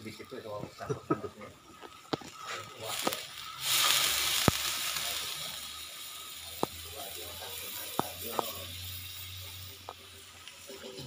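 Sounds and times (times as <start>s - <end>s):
soup bubbling at a boil: 1.5s - 11.0s.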